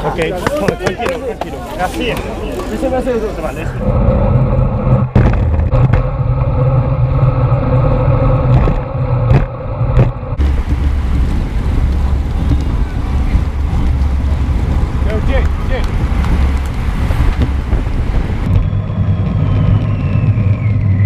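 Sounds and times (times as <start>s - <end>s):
road rumble: 0.0s - 21.0s
wind buffeting microphone: 3.6s - 21.0s.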